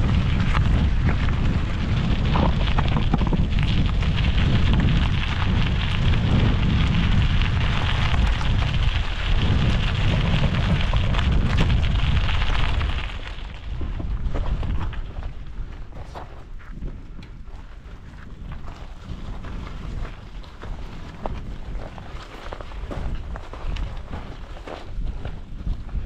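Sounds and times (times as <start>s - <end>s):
bike tyres crunching on gravel: 0.0s - 26.0s
wind buffeting microphone: 0.0s - 26.0s.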